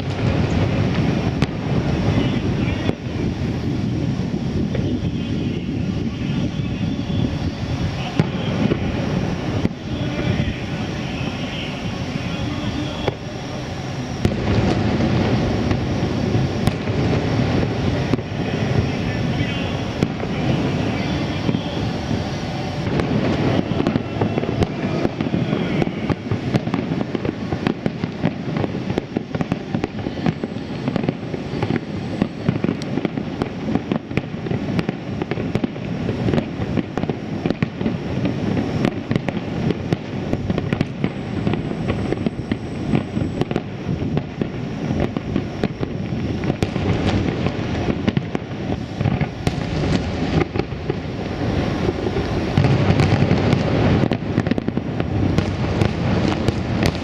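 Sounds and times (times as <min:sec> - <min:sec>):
fireworks bursting: 0:00.0 - 0:57.0
low firework booms: 0:00.0 - 0:57.0.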